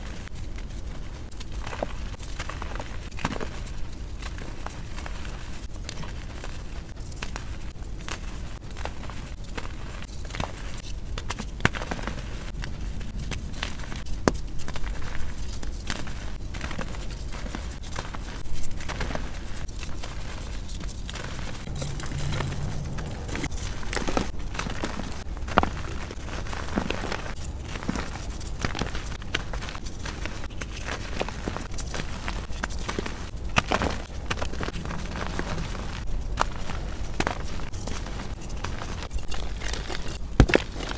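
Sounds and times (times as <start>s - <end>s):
powdery rustle of chalk: 0.0s - 40.9s
hands crushing chalk: 1.4s - 40.9s.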